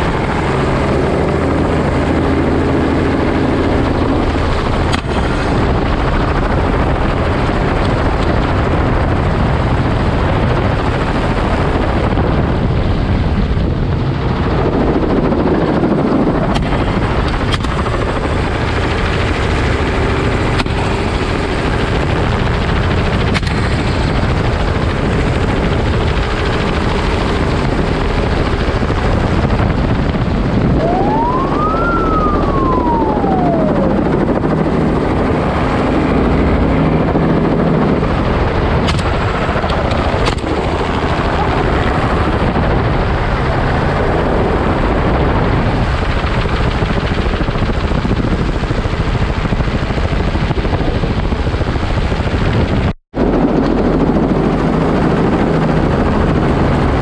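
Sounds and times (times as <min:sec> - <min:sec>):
helicopter rotor and engine: 0:00.0 - 0:57.0
wind rush: 0:00.0 - 0:57.0.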